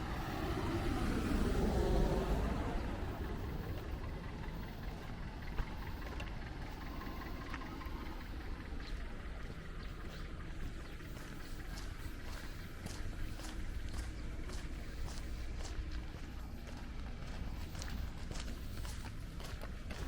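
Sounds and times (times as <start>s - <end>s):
motor vehicle passing by: 0.0s - 20.0s
steady background hum: 0.0s - 20.0s.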